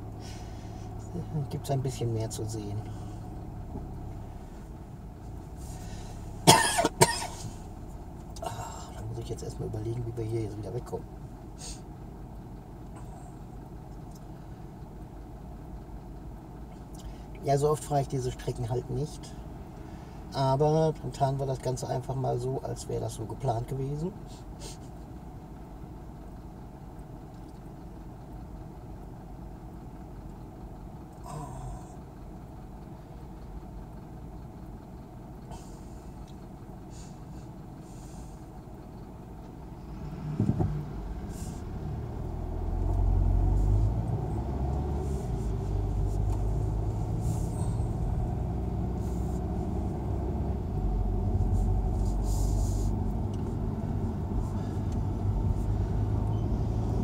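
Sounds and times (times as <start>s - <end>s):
car engine idling: 0.0s - 57.0s
engine and road rumble: 0.0s - 57.0s.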